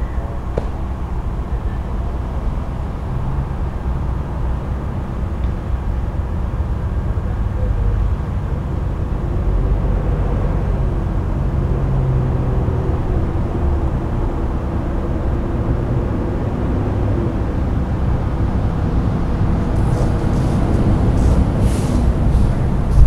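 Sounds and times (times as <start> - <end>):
fire engine engine and pump running: 0.0 - 23.0.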